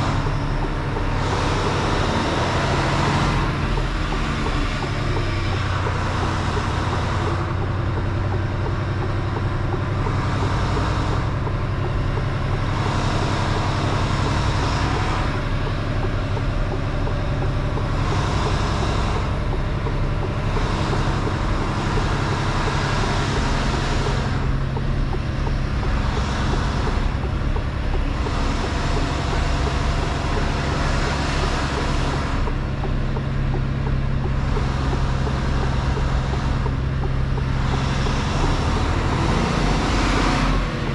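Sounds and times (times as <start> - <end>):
truck diesel engine humming: 0.0 - 40.9.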